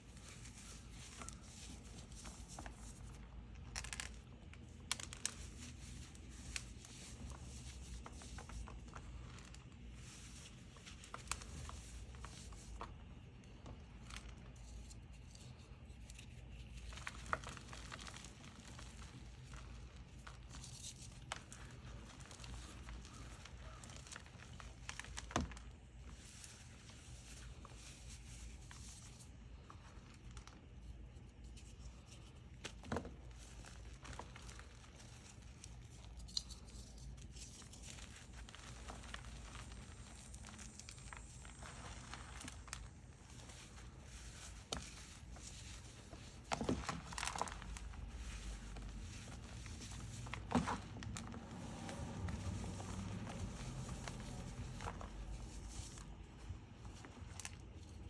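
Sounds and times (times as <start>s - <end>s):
chalk crumbling by hand: 0.0s - 58.0s.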